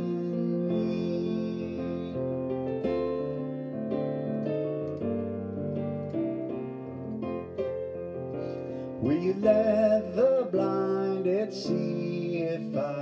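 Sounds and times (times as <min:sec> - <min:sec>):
electronic keyboard piano chords: 0:00.0 - 0:13.0.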